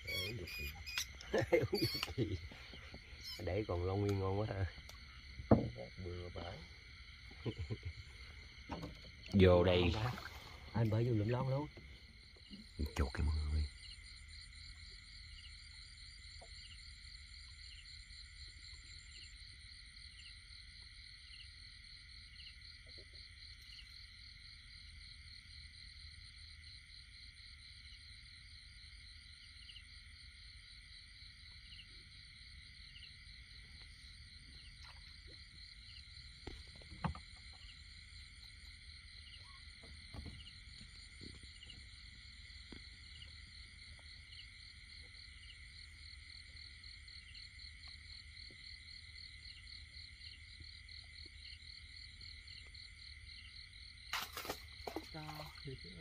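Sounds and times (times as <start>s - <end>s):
night insects chorus: 0.0s - 56.0s.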